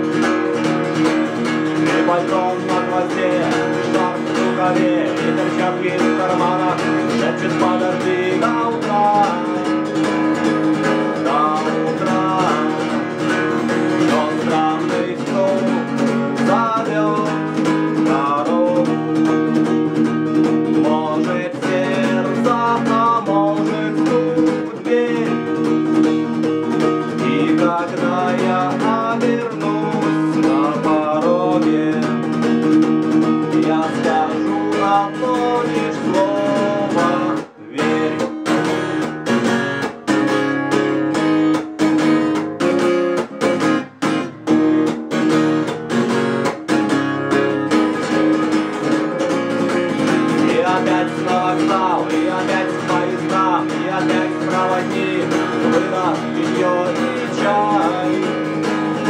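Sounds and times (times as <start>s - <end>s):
acoustic guitar chords: 0.0s - 59.0s
bending guitar melody line: 0.0s - 59.0s.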